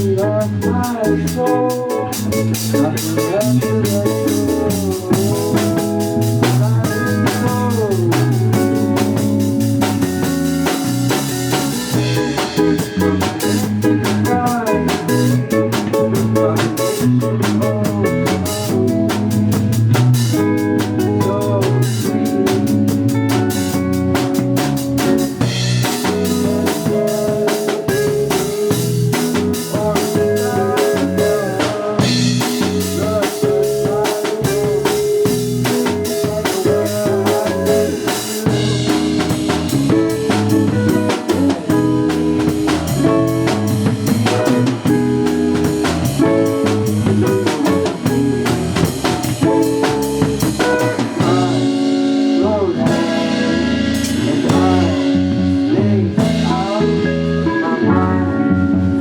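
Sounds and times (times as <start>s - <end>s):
drum kit beat: 0.0s - 55.5s, 56.2s - 57.0s
bass guitar: 0.0s - 59.0s
electric guitar: 0.0s - 59.0s
live band playing: 0.0s - 59.0s.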